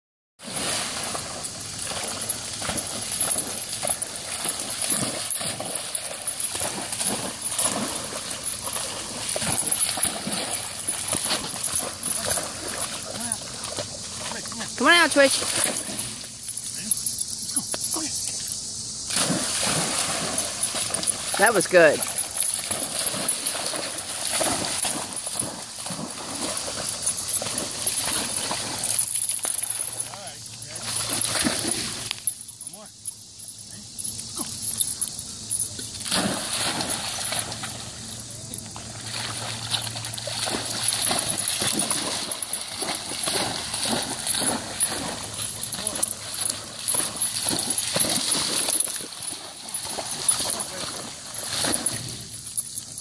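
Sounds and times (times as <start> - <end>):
dog splashing through water: 0.4 - 17.0, 19.1 - 32.1, 35.8 - 52.5.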